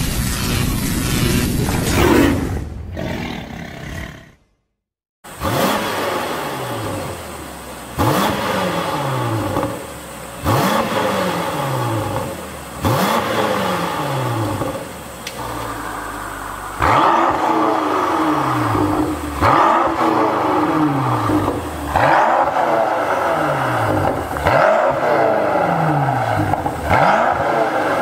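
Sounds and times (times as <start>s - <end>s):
car engine idling and revving: 5.2s - 28.0s.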